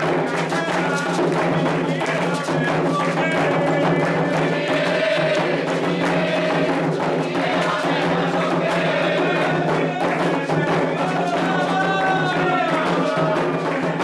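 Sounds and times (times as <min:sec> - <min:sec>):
hand drums beating fast rhythm: 0:00.0 - 0:14.0
voices singing: 0:00.0 - 0:14.0.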